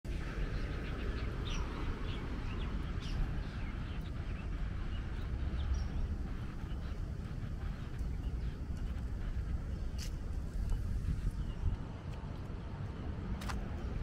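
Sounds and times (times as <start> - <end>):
small birds chirping: 0.1 - 14.0
steady low rumble: 0.1 - 14.0.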